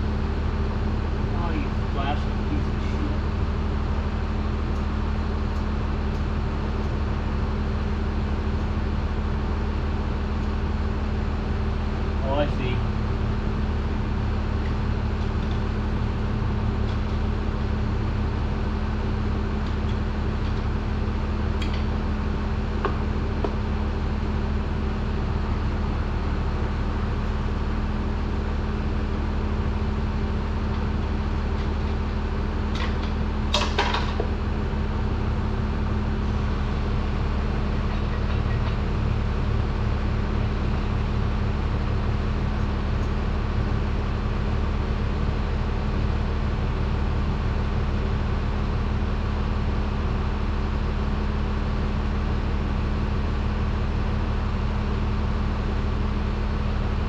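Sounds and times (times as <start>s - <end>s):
shop machinery humming: 0.0s - 52.6s.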